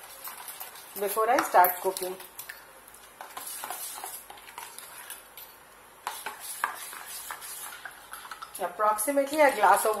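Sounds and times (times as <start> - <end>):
spoon stirring thick batter: 0.0 - 10.0.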